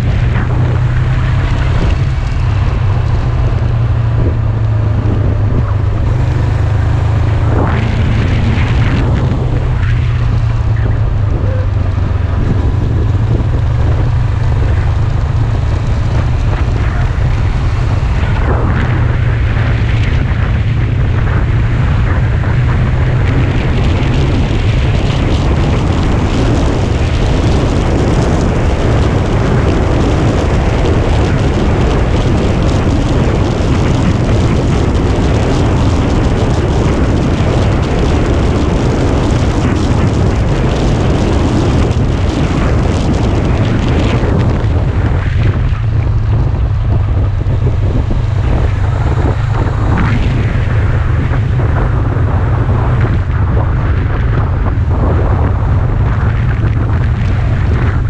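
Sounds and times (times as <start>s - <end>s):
motorcycle running: 0.0s - 58.0s
wind buffeting microphone: 0.0s - 58.0s.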